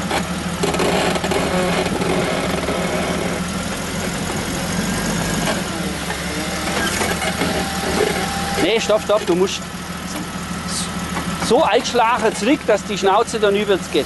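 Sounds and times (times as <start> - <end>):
car engine idling at low revs: 0.0 - 14.0.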